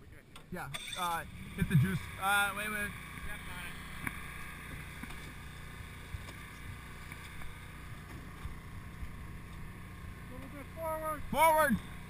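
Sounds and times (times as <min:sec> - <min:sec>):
boat engine drone: 0:01.0 - 0:12.0.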